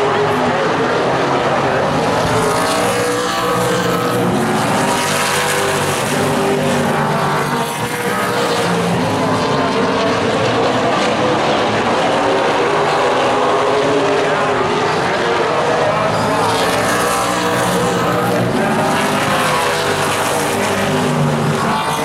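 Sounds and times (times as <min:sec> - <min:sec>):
stock car engines racing: 0:00.0 - 0:22.0.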